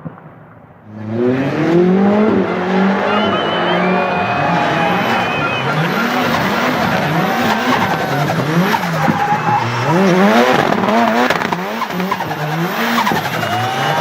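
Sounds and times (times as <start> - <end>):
turbocharged car engine revving: 0.9 - 14.0
tyres squealing and skidding: 1.2 - 14.0.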